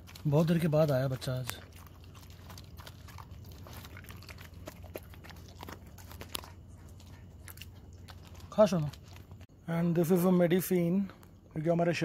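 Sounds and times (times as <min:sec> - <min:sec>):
dog chewing and lapping: 0:00.0 - 0:09.6.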